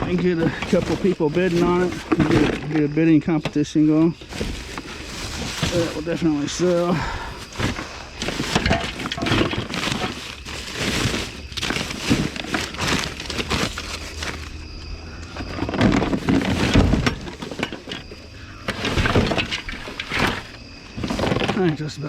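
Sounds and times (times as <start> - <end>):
rummaging through trash: 0.0 - 22.0.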